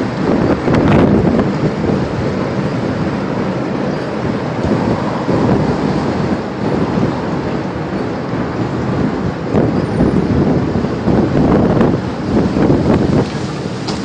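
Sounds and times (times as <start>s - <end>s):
tornado winds rushing: 0.0s - 14.0s
wind buffeting microphone: 0.0s - 14.0s.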